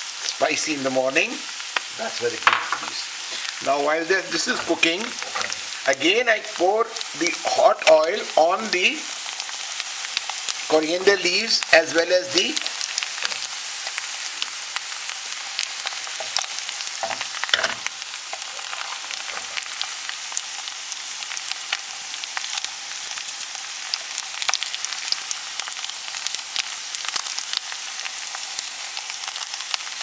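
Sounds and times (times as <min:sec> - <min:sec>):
egg and potatoes sizzling in oil: 0:00.0 - 0:30.0.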